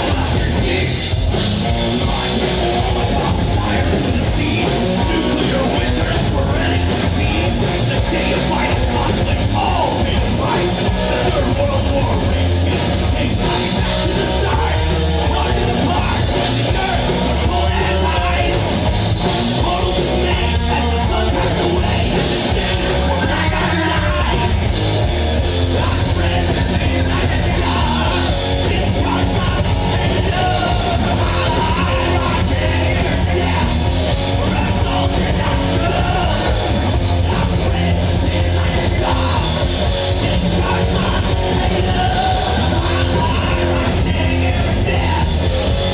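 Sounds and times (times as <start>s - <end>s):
heavy metal band playing: 0.0s - 45.9s
singer yelling and singing: 0.0s - 45.9s.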